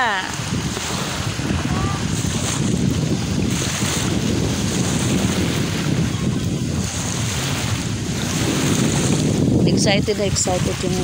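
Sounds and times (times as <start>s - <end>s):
small waves washing: 0.0s - 11.0s
wind buffeting microphone: 0.0s - 11.0s.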